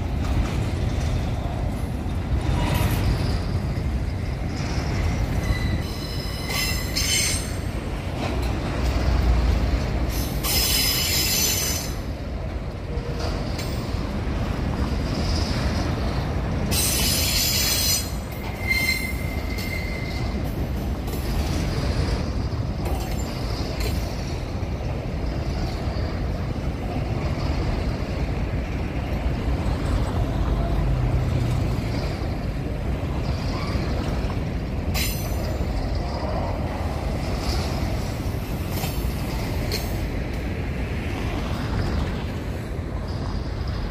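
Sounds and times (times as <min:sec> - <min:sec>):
train cars rumbling on track: 0:00.0 - 0:43.9.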